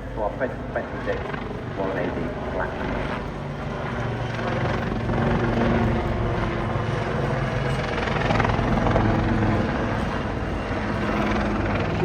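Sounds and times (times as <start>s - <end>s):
helicopter rotor and turbine drone: 0.0s - 12.0s.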